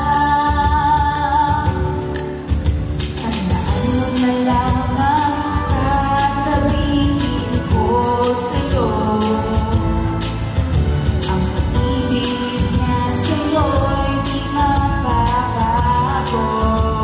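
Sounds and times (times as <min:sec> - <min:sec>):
instrumental accompaniment: 0:00.0 - 0:17.0
woman singing into microphone: 0:00.0 - 0:17.0.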